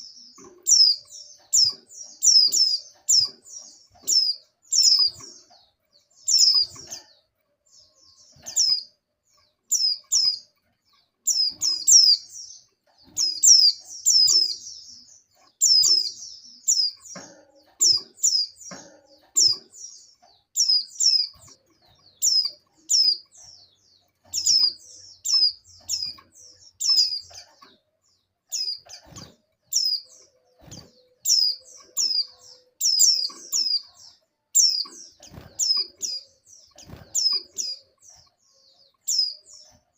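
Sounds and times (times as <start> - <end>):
bird high downward chirps: 0.0 - 5.6, 6.2 - 7.1, 7.8 - 39.8.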